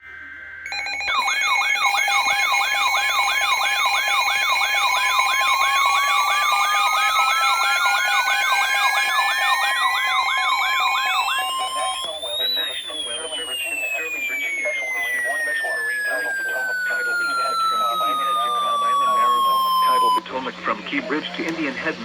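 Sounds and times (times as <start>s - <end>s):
fast sweeping siren tones: 0.0s - 20.2s
steady electronic tones: 0.0s - 20.2s
slow rising siren wail: 0.6s - 20.2s.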